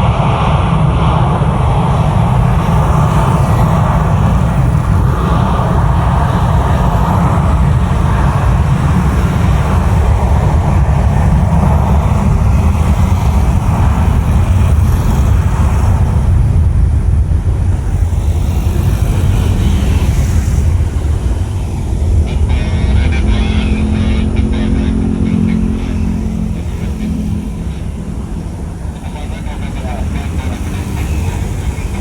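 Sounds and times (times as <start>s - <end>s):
jet engines running loud: 0.0s - 32.0s.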